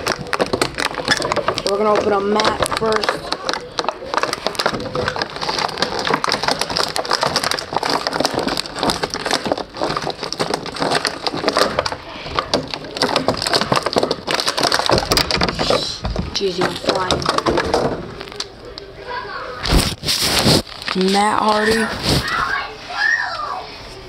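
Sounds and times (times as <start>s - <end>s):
packaging crackling and tearing: 0.0s - 18.6s, 19.6s - 22.5s.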